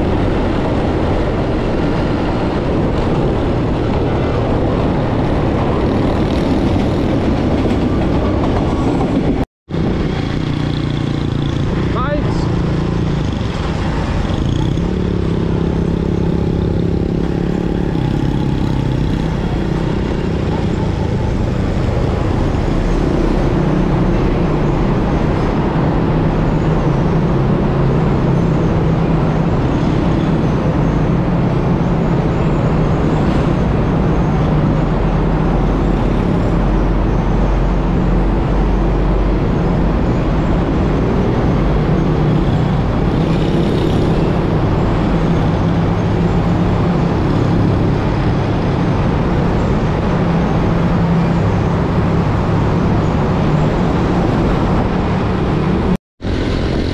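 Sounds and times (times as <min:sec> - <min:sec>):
traffic drone in tunnel: 0:00.0 - 0:56.9.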